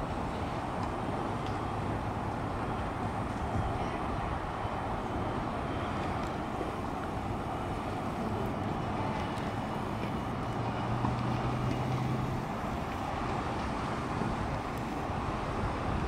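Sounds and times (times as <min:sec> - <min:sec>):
low engine hum: 0:00.0 - 0:16.0
road traffic rushing: 0:00.0 - 0:16.0.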